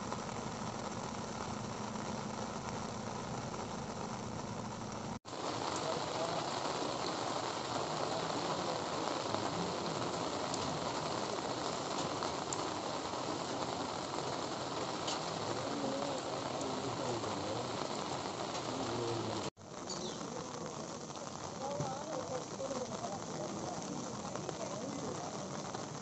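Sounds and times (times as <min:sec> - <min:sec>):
heavy rain on road and trees: 0:00.0 - 0:26.0.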